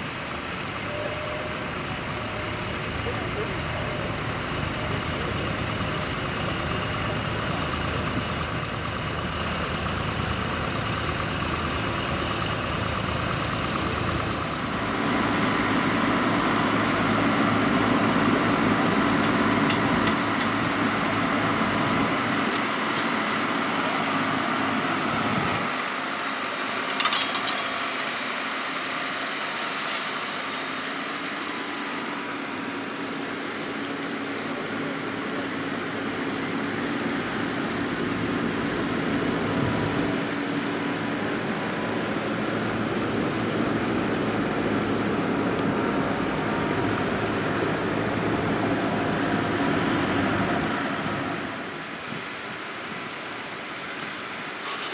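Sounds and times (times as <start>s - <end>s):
tractor engines under load: 0.0s - 54.9s.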